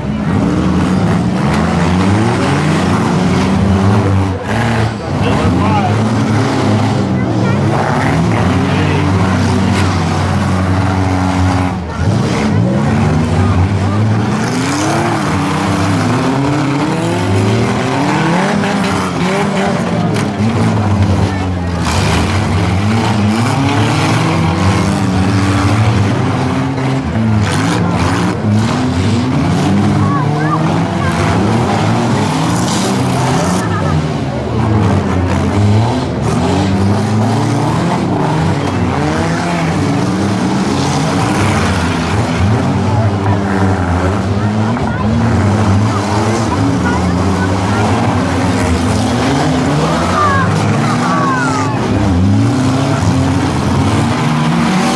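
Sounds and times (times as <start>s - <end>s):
car engines revving: 0.0s - 54.9s
tires scrubbing: 0.0s - 54.9s.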